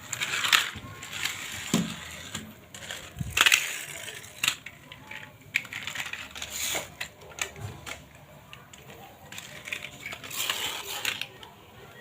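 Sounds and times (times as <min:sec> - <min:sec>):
toy cars clacking and rattling: 0:00.0 - 0:12.0.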